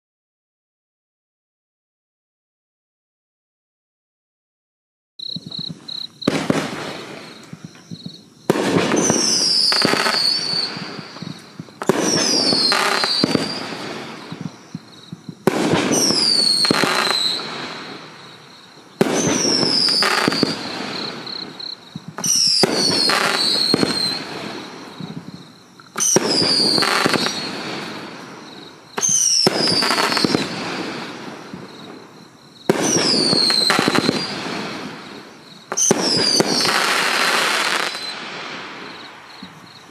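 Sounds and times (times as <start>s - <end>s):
falling firework whistle: 5.2s - 39.9s
firework crackling: 5.2s - 39.9s
firework shots: 5.2s - 39.9s.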